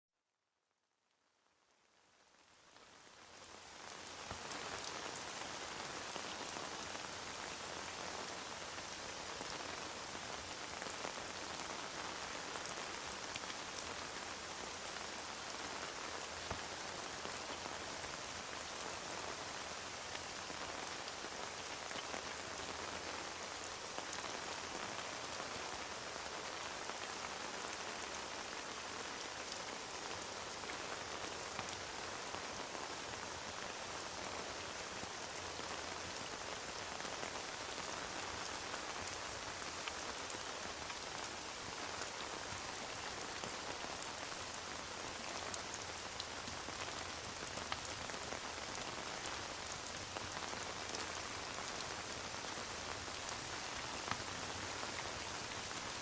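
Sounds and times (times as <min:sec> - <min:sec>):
rain pattering: 0:02.0 - 0:56.0.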